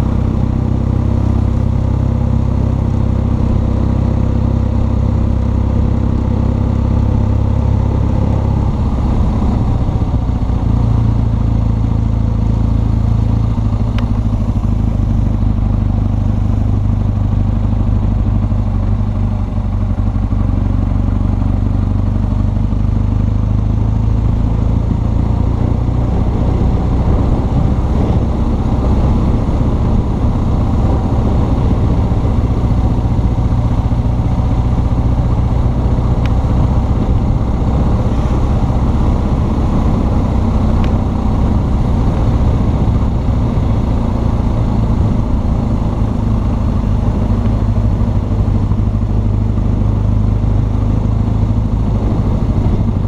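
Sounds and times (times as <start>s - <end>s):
motorcycle engine running: 0.0s - 53.0s
road noise: 0.0s - 53.0s.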